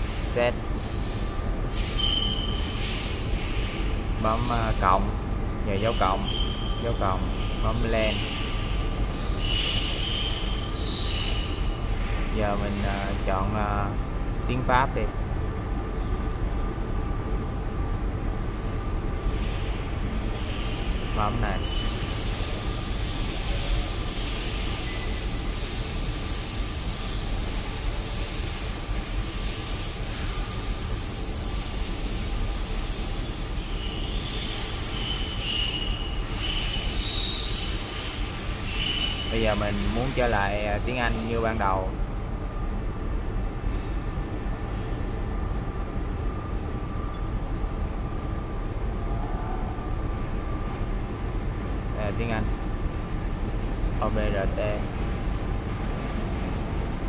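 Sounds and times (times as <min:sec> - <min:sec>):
low machinery hum: 0:00.0 - 0:57.0.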